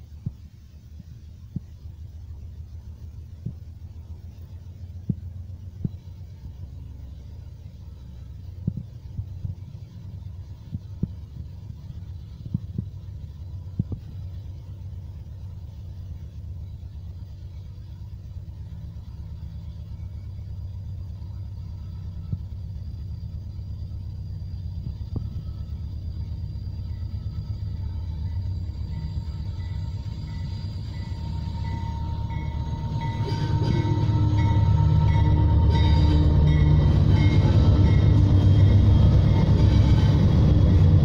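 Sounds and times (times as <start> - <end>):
diesel locomotives rumbling: 0.0 - 41.0.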